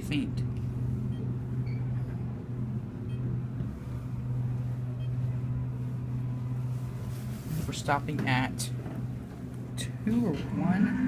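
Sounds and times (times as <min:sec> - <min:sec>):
elevator hum: 0:00.0 - 0:11.0.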